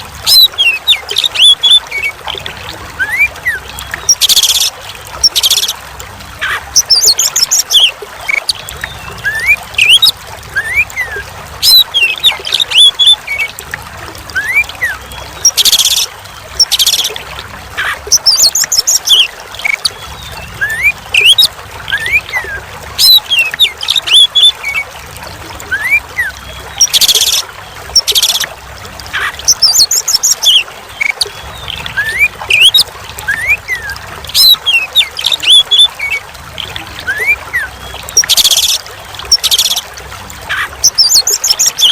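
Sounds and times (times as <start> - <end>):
trickling water: 0.0 - 41.9.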